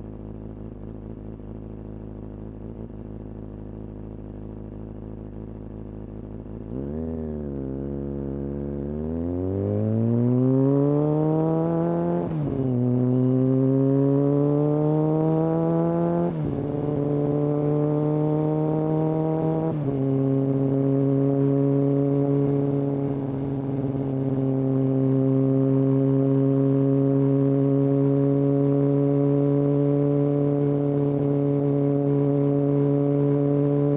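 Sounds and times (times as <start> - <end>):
motorcycle accelerating through gears: 0.0 - 33.9.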